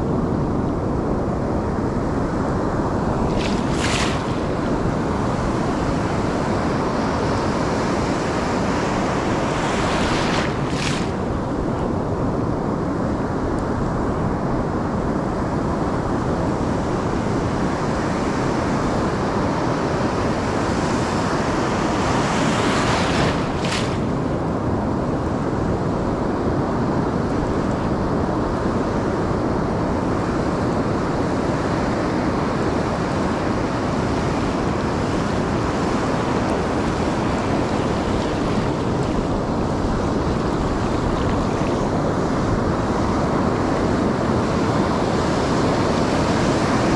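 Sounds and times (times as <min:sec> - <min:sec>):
ocean surf washing: 0:00.0 - 0:46.9
wind rumbling on microphone: 0:00.0 - 0:46.9.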